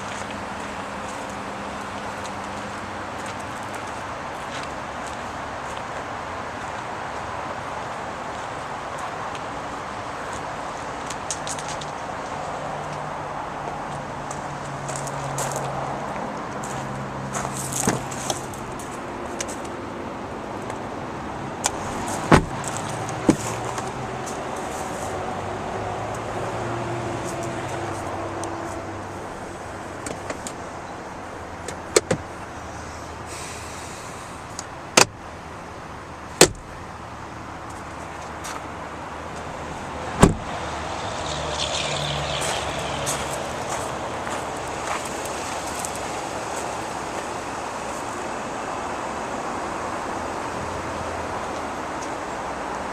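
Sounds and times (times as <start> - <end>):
steady vehicle noise: 0.0 - 52.9.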